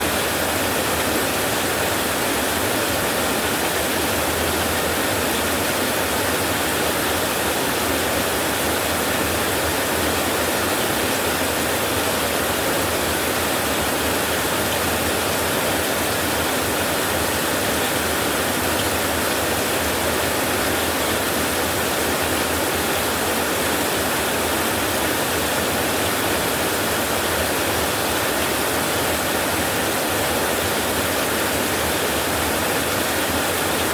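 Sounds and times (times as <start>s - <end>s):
heavy rain on a tin roof: 0.0s - 33.9s.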